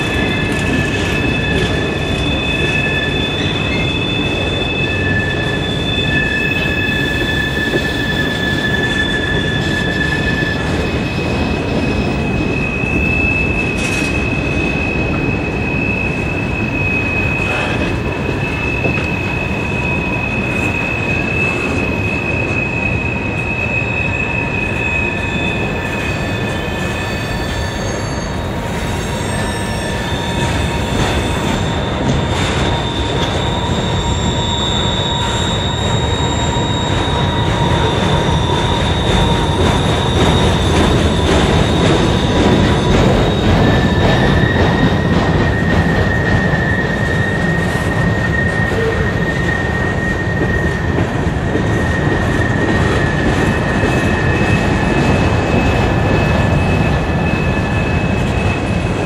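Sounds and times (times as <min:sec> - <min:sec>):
high-pitched flange squeal: 0:00.0 - 0:59.0
train wheels rumbling on rail: 0:00.0 - 0:59.0.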